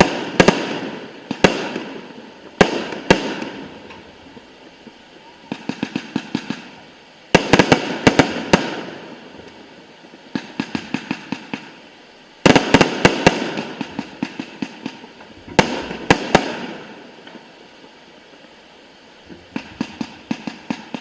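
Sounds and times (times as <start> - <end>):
fireworks bangs and crackles: 0.0 - 18.0, 19.4 - 21.0.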